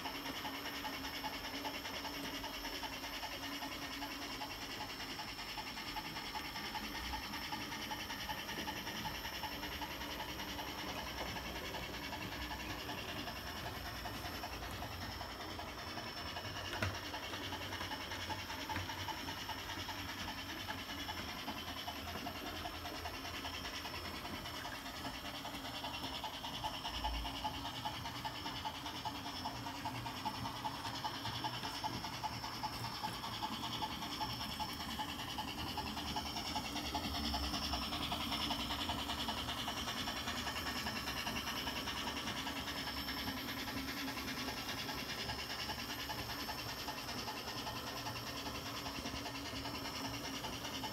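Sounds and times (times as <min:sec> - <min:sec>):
model steam locomotive chuffing: 0:00.0 - 0:50.9.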